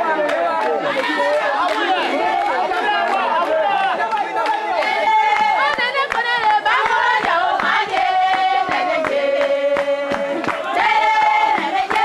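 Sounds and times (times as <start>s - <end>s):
men singing a chant: 0.0s - 12.0s.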